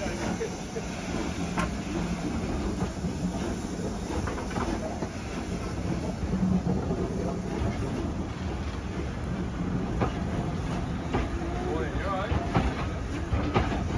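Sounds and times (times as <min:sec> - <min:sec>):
wheels clicking over rail joints: 0:00.0 - 0:13.9.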